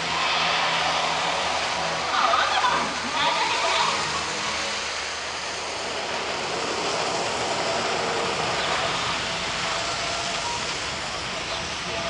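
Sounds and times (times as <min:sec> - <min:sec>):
fountain water spray hissing: 0:00.0 - 0:12.0.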